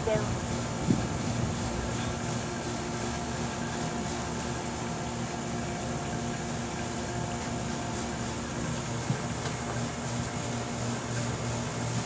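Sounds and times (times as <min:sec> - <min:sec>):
machinery hum and whir: 0:00.0 - 0:12.0.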